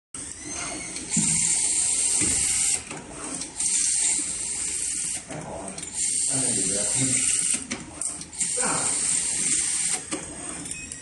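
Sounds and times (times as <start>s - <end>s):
screw-fastening machine running: 0.2s - 11.0s.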